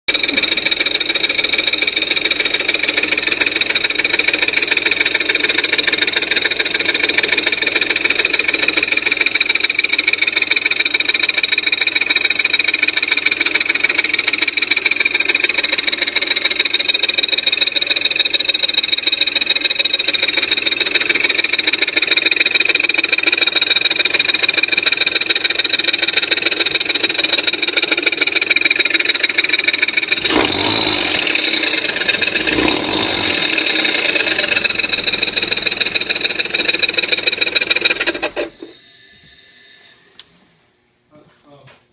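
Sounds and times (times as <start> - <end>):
car engine idling: 0.1 - 38.7.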